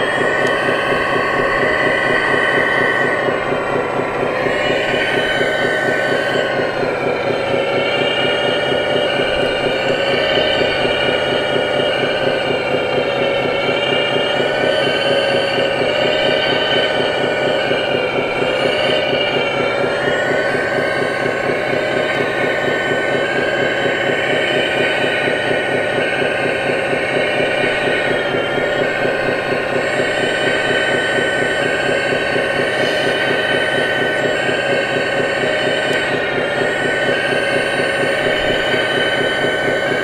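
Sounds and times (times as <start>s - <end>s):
hydraulic pump whining: 0.0s - 40.0s.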